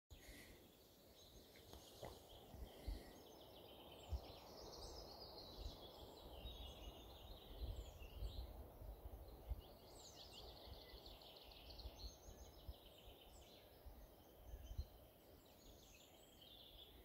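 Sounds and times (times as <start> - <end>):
small birds chirping and trilling: 0.1 - 17.0.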